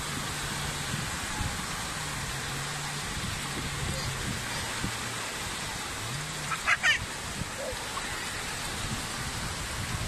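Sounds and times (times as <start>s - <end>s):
small waves washing on sand: 0.0s - 10.0s.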